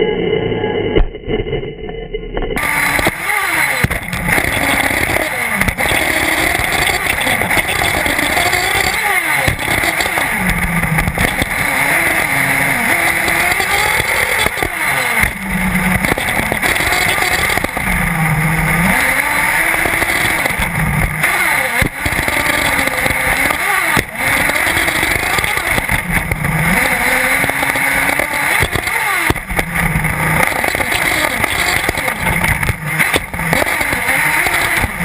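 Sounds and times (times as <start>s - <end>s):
steady rushing noise: 0.0s - 35.0s
rc buggy engine revving: 2.6s - 35.0s.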